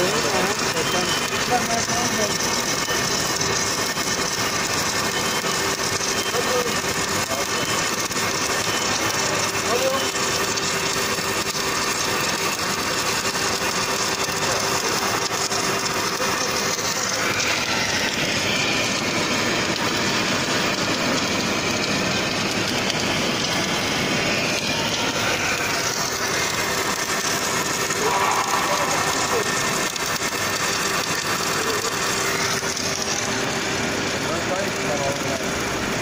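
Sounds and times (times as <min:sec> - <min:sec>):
welding torch hissing and humming: 0:00.0 - 0:36.0.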